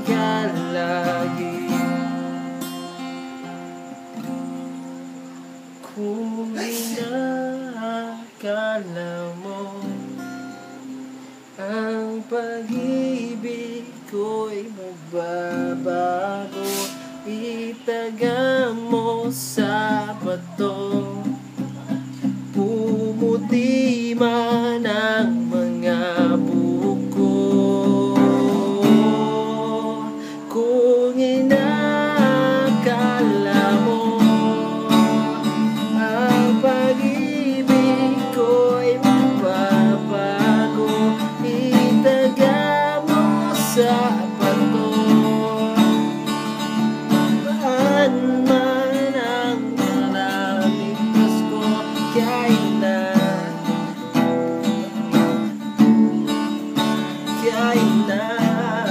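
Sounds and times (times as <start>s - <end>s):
strummed acoustic guitar: 0.0s - 58.9s.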